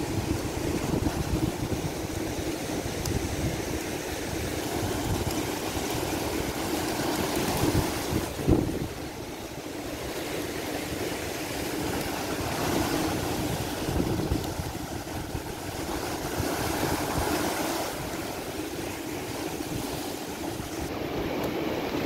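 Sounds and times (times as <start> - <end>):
waves breaking on rocky shore: 0.0 - 22.0
wind rumbling on microphone: 0.0 - 22.0.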